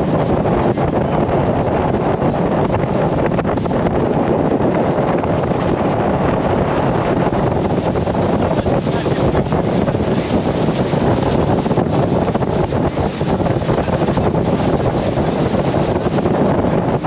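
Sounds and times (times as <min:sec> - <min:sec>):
boat engine: 0:00.0 - 0:17.0
water noise: 0:00.0 - 0:17.0
wind buffeting microphone: 0:00.0 - 0:17.0.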